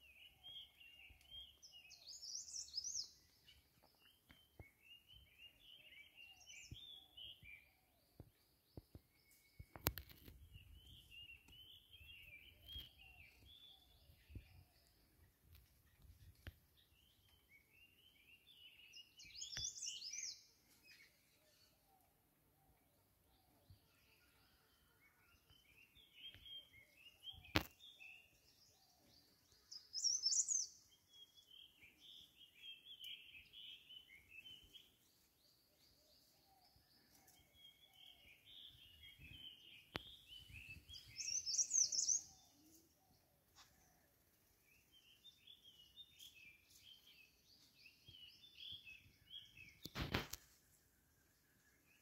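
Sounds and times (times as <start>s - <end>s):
birds chirping and twittering: 0.0s - 52.0s.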